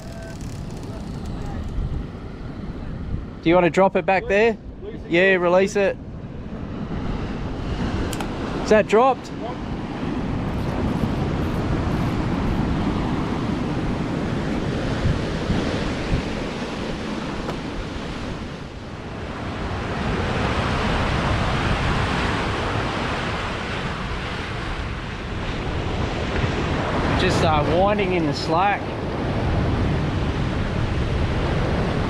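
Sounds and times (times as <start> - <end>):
wind buffeting microphone: 0.0 - 5.2, 5.8 - 32.0.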